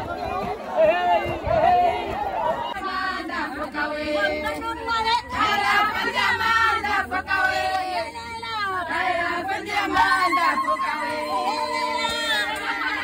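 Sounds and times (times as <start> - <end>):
crowd singing together: 0.0 - 13.0.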